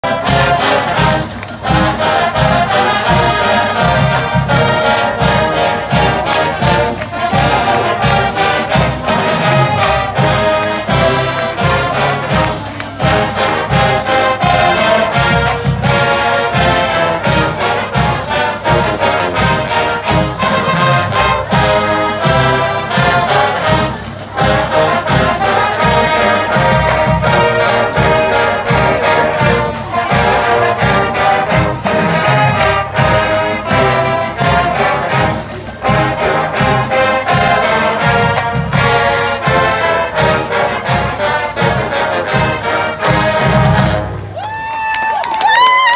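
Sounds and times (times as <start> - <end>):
steady drum beat: 0.0 - 44.1
marching band brass playing: 0.0 - 44.4.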